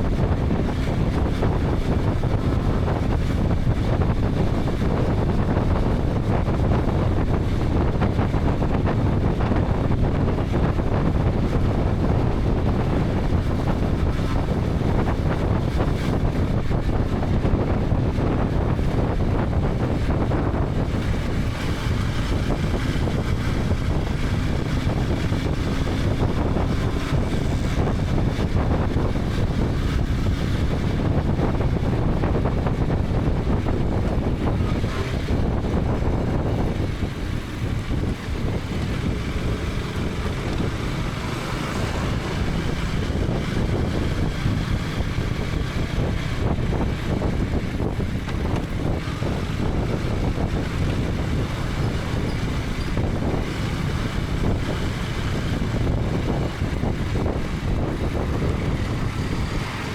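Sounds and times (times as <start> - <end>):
motorcycle engine running: 0.0 - 59.9
wind rush over microphone: 0.0 - 59.9.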